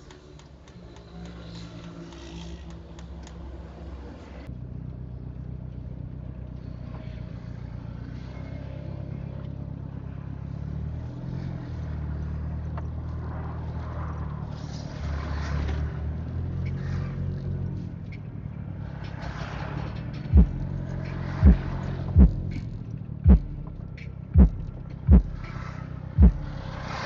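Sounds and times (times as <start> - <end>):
car engine humming: 0.0 - 27.0.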